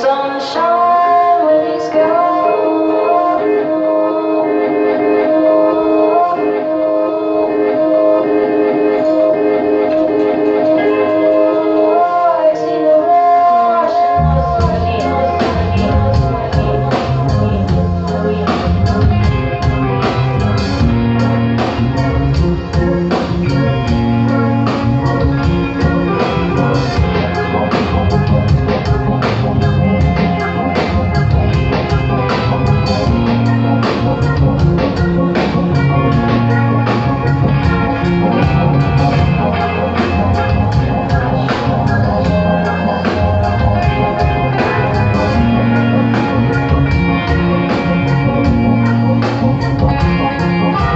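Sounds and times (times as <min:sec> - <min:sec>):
live rock band playing: 0:00.0 - 0:50.9.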